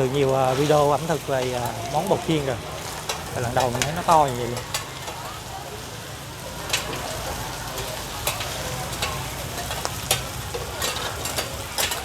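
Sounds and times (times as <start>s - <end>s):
food sizzling in oil: 0.0s - 12.0s
metal utensil clinking on pan: 0.5s - 5.4s, 6.6s - 12.0s.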